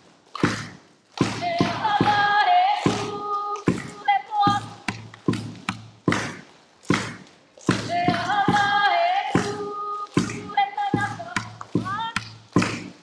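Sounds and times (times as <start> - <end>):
percussion beats: 0.0 - 13.0.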